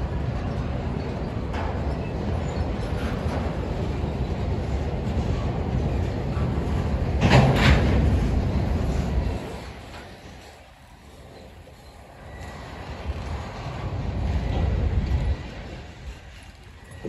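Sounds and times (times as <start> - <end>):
freight cars rumbling on rail: 0.0 - 17.0.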